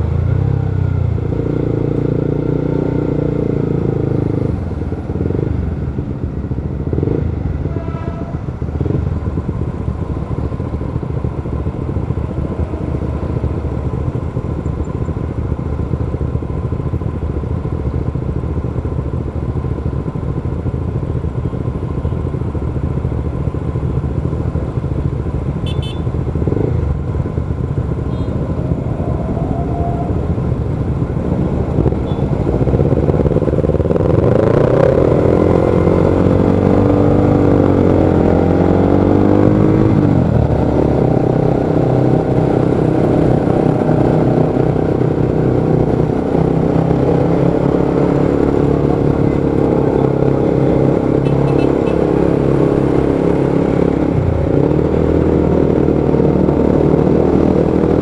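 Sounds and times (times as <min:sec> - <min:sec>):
motorcycle engines in traffic: 0:00.0 - 0:58.0.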